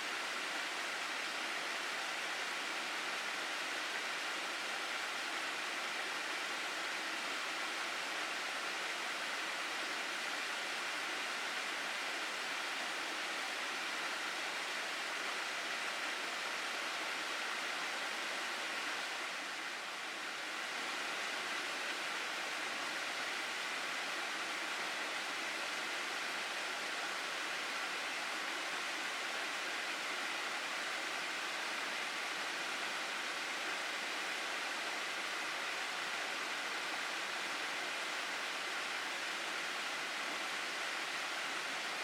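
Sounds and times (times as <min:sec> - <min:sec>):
stream water rushing over rocks: 0:00.0 - 0:42.0.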